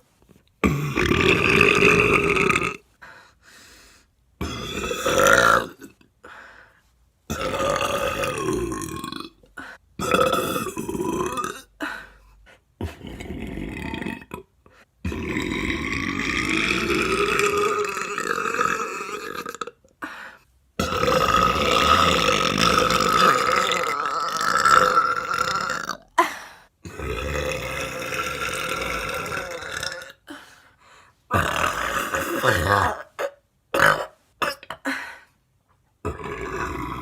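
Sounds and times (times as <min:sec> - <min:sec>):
woman burping: 0:00.6 - 0:02.8, 0:04.4 - 0:06.1, 0:07.3 - 0:12.0, 0:12.8 - 0:19.8, 0:20.8 - 0:30.4, 0:31.3 - 0:35.1, 0:36.0 - 0:37.0.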